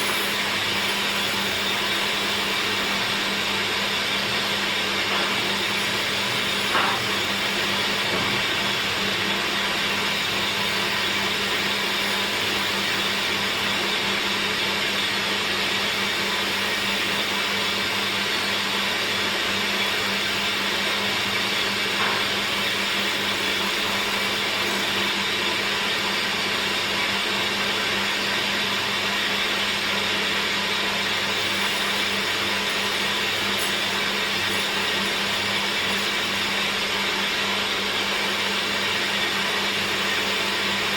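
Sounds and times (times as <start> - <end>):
woodworking machine motor hum: 0.0 - 40.9.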